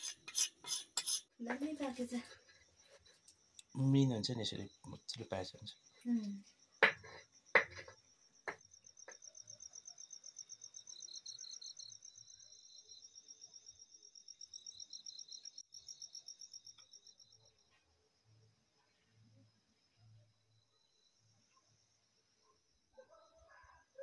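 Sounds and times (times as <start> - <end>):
crickets chirping: 0.0 - 24.0
lower insect trill: 0.0 - 24.0.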